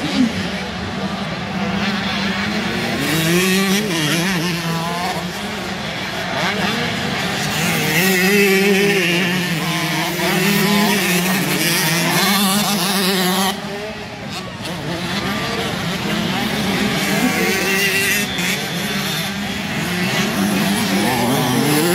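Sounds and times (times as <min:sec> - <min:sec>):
motocross bike engines racing: 0:00.0 - 0:21.9.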